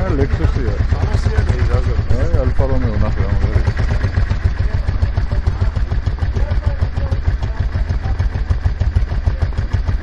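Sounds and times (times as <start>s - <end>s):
scooter engine idling: 0.0s - 10.0s.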